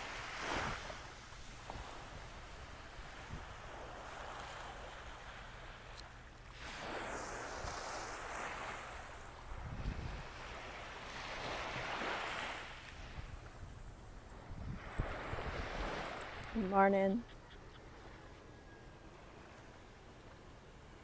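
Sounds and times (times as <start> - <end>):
small waves lapping on sand: 0.0 - 17.1.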